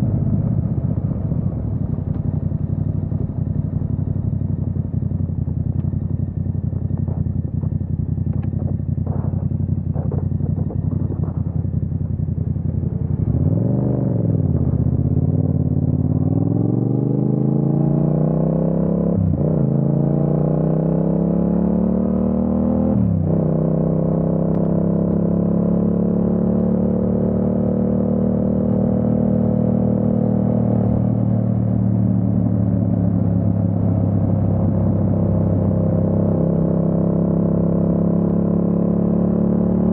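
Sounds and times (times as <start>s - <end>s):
motorcycle engine revving and accelerating: 0.0s - 39.9s.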